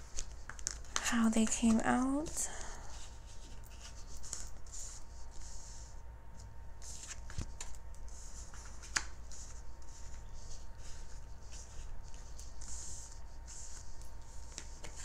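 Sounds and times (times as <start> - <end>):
cards rustling: 0.0 - 5.9, 6.8 - 15.0.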